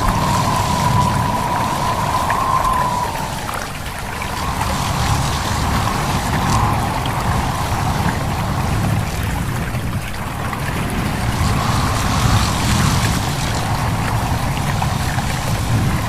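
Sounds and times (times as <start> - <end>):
stream babbling: 0.0 - 16.0
wind rushing: 0.0 - 16.0.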